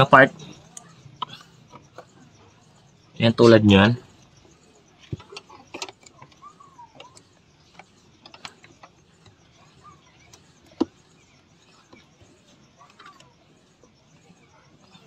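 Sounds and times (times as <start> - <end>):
faint clicks and creaks: 0.0 - 15.0.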